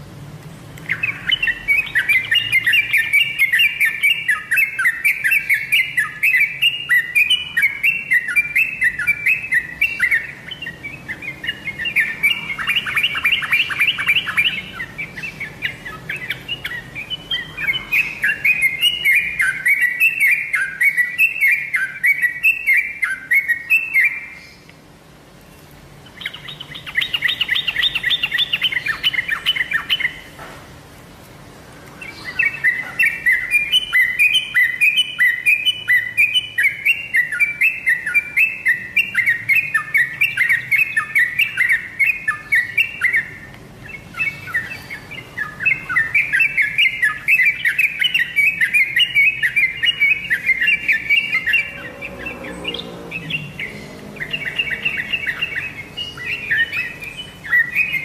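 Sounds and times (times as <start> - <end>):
recorded bird song chattering: 0.0 - 58.0.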